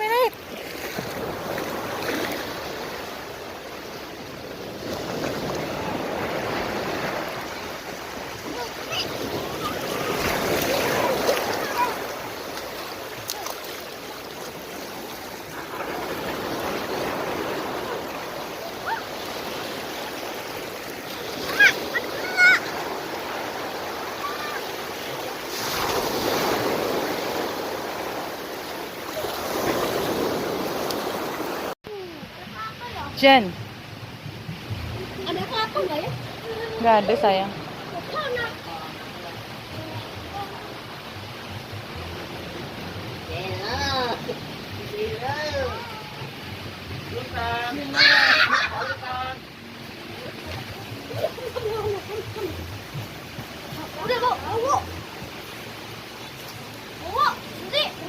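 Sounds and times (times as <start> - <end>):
sea waves washing onto beach: 0.0 - 58.0.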